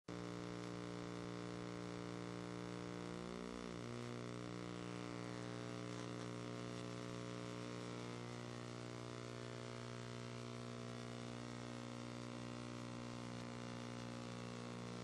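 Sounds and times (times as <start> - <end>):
steady buzzing hum: 0.1 - 15.0.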